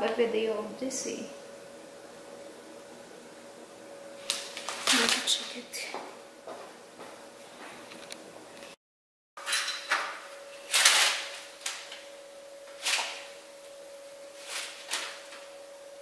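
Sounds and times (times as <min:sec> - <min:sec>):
faint steady hum: 0:00.0 - 0:08.8, 0:09.5 - 0:16.0.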